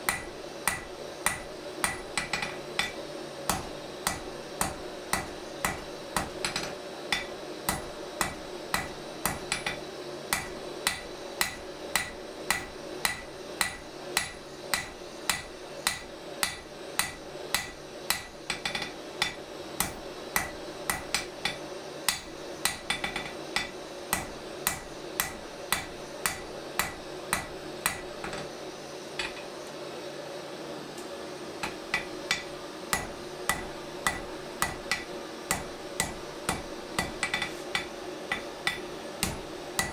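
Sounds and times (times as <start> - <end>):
hammer striking steel on anvil: 0.0 - 28.5, 29.2 - 29.5, 31.6 - 39.9
steady hum: 0.0 - 39.9.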